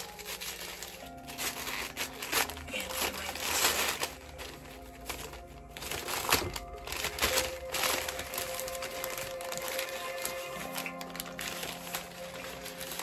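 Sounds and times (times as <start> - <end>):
background music: 0.0 - 13.0
paper wrapper crinkling: 0.0 - 13.0.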